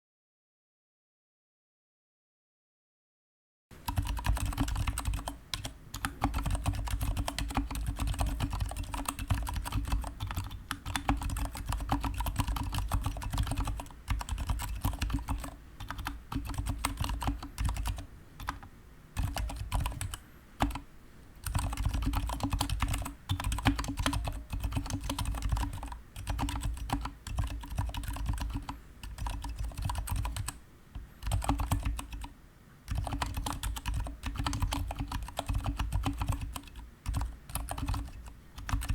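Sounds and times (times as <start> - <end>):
fast typing on mechanical keyboard: 3.8 - 20.8, 21.4 - 30.6, 31.2 - 32.3, 32.9 - 38.9.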